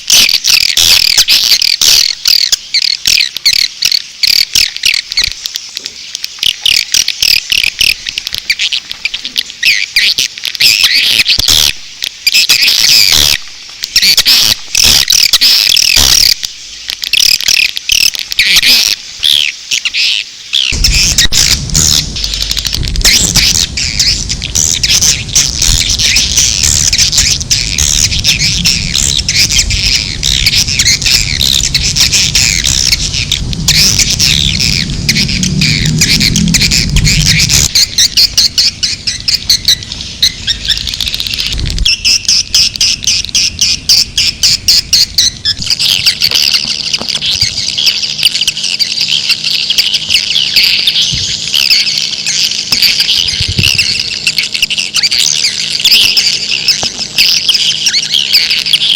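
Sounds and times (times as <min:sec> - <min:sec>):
swiftlets twittering and chirping: 0:00.0 - 0:58.9.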